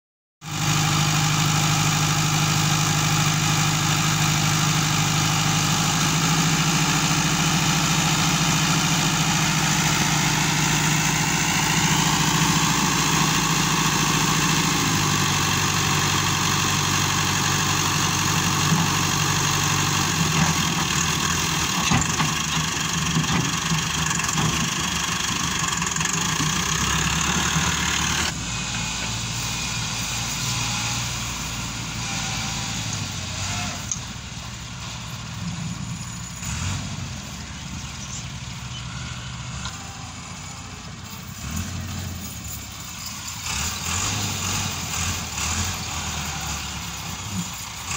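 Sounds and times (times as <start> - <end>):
tractor diesel engine: 0.4 - 47.9.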